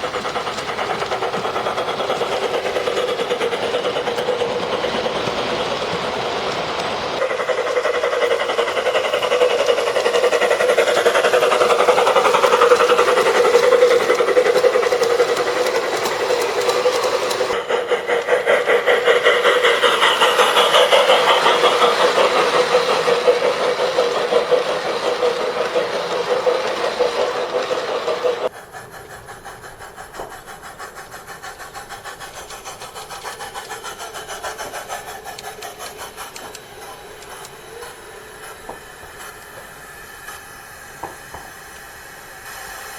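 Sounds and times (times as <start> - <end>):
model locomotive rattling on track: 0.0 - 42.9.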